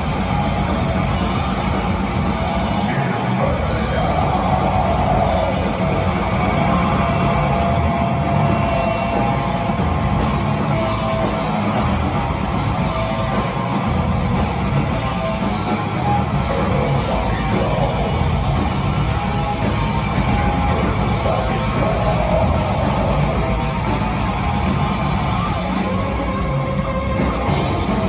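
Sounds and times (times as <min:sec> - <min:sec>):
distorted electric guitars: 0:00.0 - 0:28.0
drum kit: 0:00.0 - 0:28.0.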